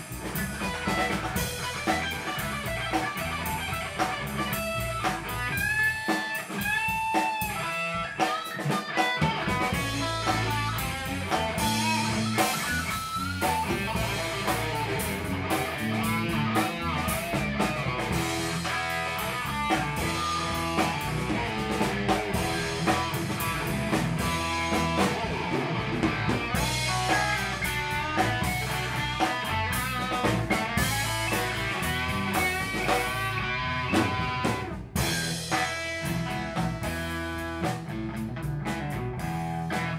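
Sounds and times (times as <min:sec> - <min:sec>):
electric guitar lead lines: 0:00.0 - 0:39.9
rock band playing: 0:00.0 - 0:39.9.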